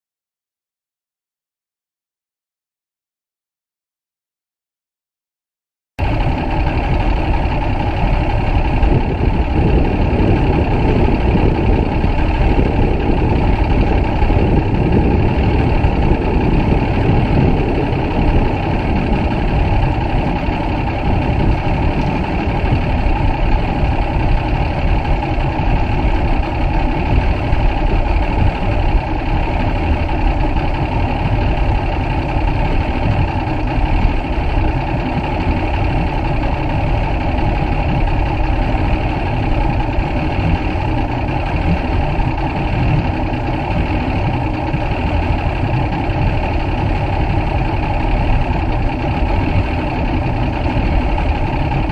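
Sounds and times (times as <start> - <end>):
outboard motor rumbling: 6.0 - 51.9.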